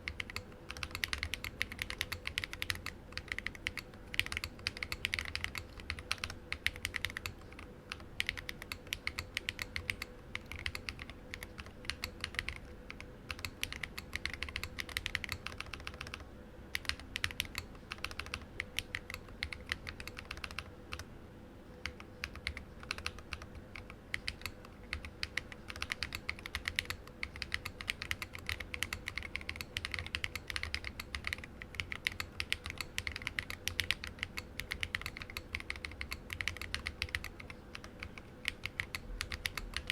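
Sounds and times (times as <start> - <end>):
typing on mechanical keyboard: 0.0 - 21.0, 21.8 - 39.9.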